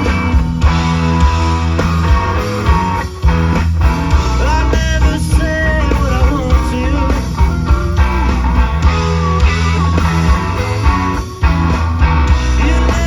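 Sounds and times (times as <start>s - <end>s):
electric guitar: 0.0s - 13.0s
live rock band playing: 0.0s - 13.0s.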